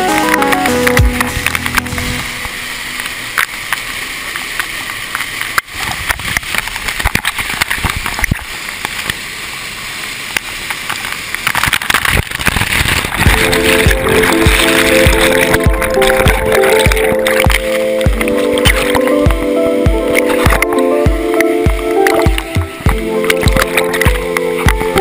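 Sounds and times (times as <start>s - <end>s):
waterfall rushing and splashing: 0.0s - 25.0s.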